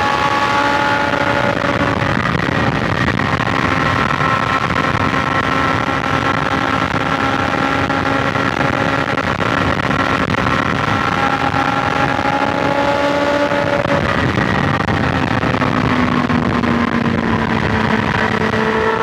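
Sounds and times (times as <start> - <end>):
motorcycle engine running steadily: 0.0 - 19.0
wind and road noise: 0.0 - 19.0.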